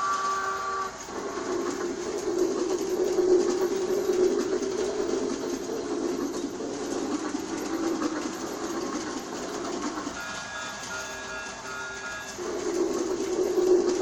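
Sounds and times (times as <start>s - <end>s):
toy train whirring and clattering: 0.0s - 14.0s.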